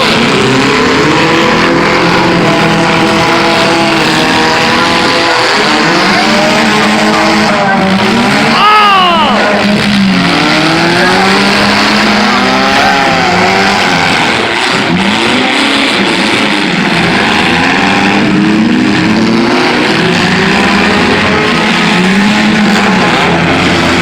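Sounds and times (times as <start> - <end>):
car engines revving hard: 0.0 - 24.0
loud rumble of cars: 0.0 - 24.0.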